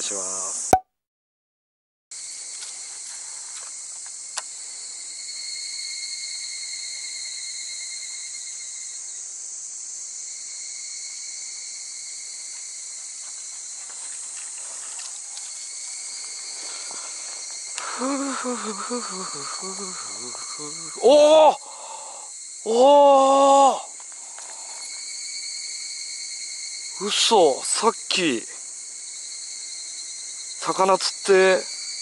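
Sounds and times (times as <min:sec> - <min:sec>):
insects chorus: 0:00.0 - 0:00.7, 0:02.2 - 0:32.0.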